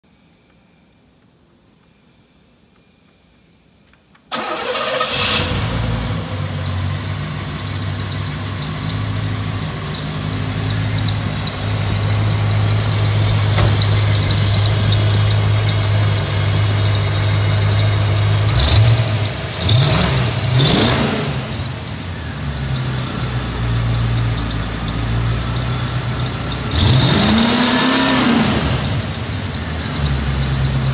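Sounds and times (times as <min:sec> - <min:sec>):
car engine starting: 0:04.3 - 0:30.9
engine revving: 0:04.4 - 0:30.9.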